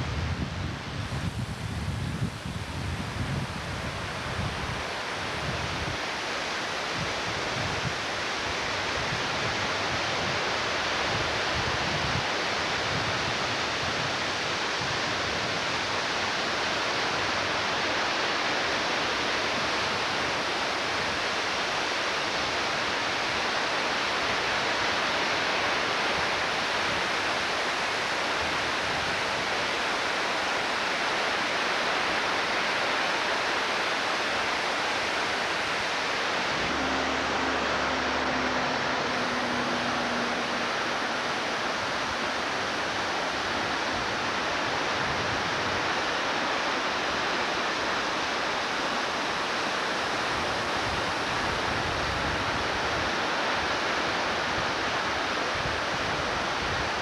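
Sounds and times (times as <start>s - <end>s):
flooded creek rushing: 4.0s - 57.0s.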